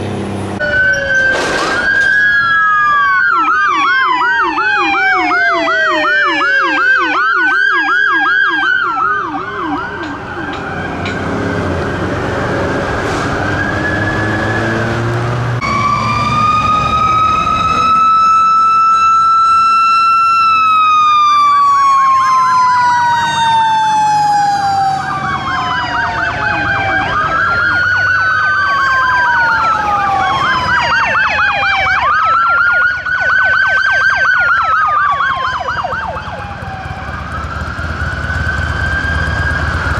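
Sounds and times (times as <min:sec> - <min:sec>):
fire engine rumble: 0:00.0 - 0:39.9
fast electronic siren yelp: 0:00.6 - 0:11.2, 0:15.6 - 0:39.9
siren wailing: 0:00.6 - 0:39.9.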